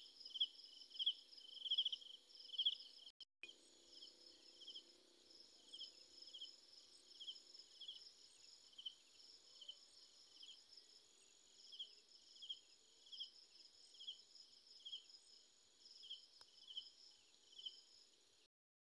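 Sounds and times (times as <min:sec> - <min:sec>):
crickets chirping faintly: 0:00.0 - 0:18.5
high insect trill: 0:00.0 - 0:18.5.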